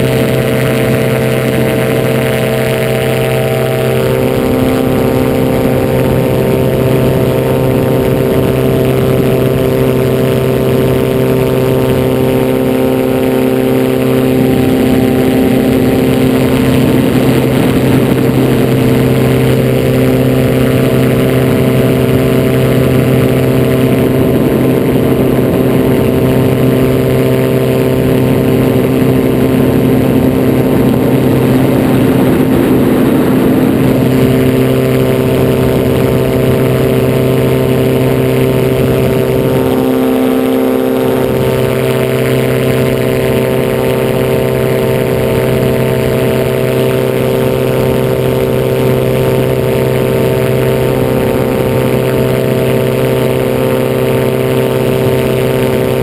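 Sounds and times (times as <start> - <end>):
aircraft engine and propeller: 0.0 - 56.0
rough rushing wind noise: 0.0 - 56.0.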